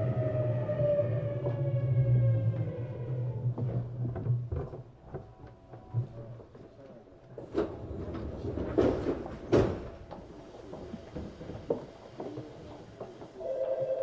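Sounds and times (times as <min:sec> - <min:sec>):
knocks and clunks in train car: 0:00.8 - 0:14.0.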